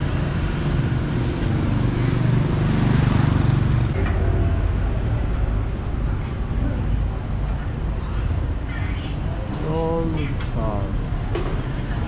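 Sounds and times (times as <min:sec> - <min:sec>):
street traffic: 0:00.0 - 0:12.0
vehicle engine running nearby: 0:00.0 - 0:12.0.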